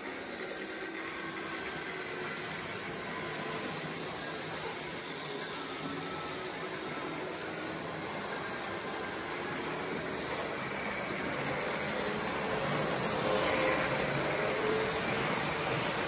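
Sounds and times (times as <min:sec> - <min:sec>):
faint motor whine: 0:00.0 - 0:16.0
model train rolling on track: 0:00.0 - 0:16.0.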